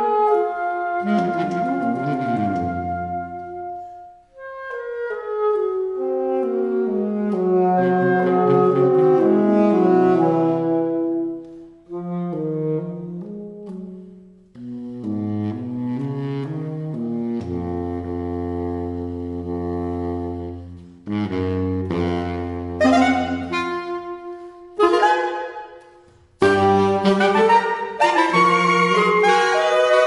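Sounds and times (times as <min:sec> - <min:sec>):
low baritone saxophone notes: 0:00.0 - 0:30.0
saxophones playing sustained notes: 0:00.0 - 0:30.0.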